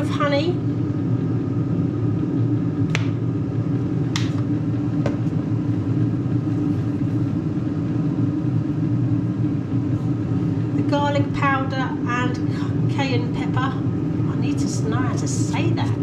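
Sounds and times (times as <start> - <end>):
air fryer fan hum: 0.0 - 16.0.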